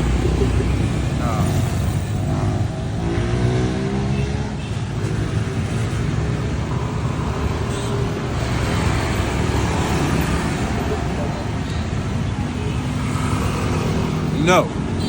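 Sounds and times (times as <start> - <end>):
steady traffic rumble: 0.0 - 15.0.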